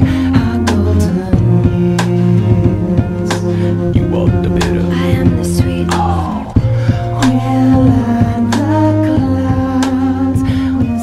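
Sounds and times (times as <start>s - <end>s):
steady bass line: 0.0s - 11.0s.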